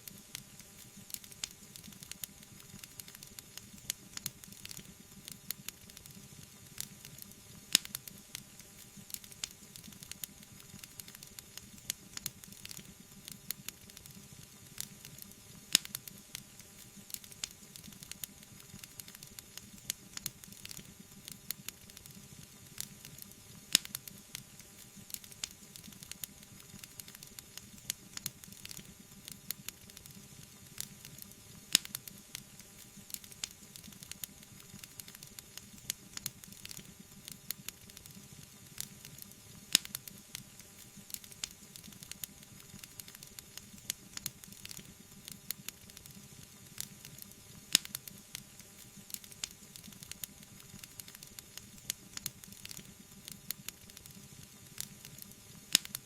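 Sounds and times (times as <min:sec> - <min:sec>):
fire hissing: 0:00.0 - 0:56.0
wood fire crackling: 0:00.0 - 0:56.0.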